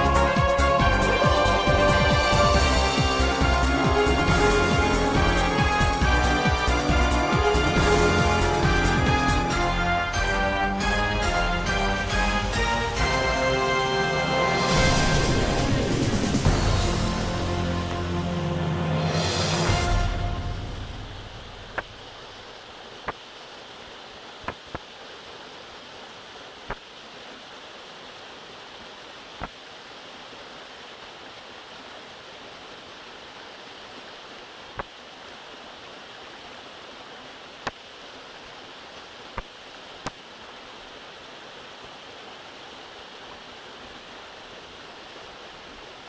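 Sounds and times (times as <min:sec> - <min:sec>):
waterfall rushing over rocks: 0:00.0 - 0:46.0.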